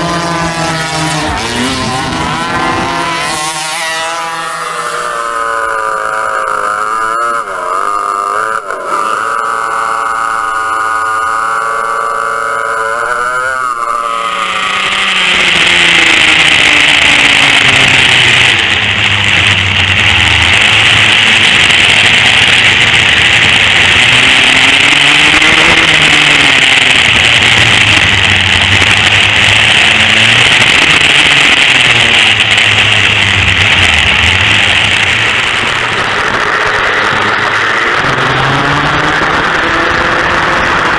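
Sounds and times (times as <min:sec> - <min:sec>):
racing kart engines revving: 0:00.0 - 0:40.9.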